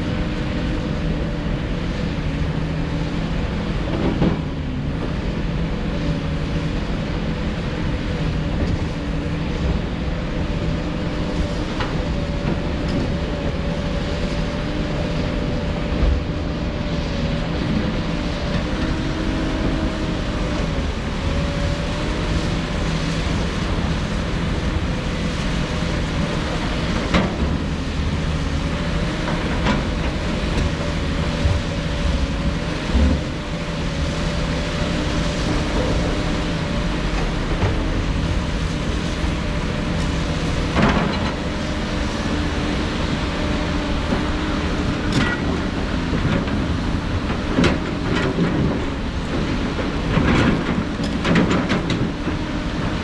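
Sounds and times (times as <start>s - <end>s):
heavy machinery diesel engines: 0.0s - 53.0s.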